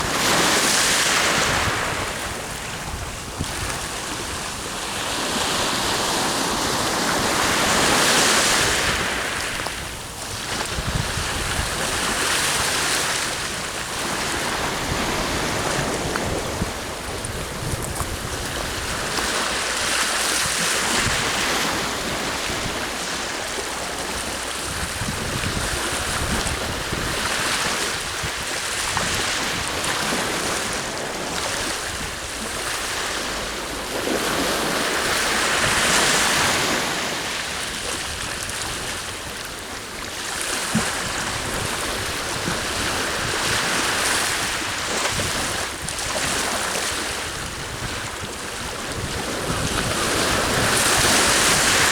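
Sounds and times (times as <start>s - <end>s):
wind gusting over microphone: 0.0s - 39.3s, 40.7s - 51.9s
sea waves washing onto shore: 0.0s - 51.9s.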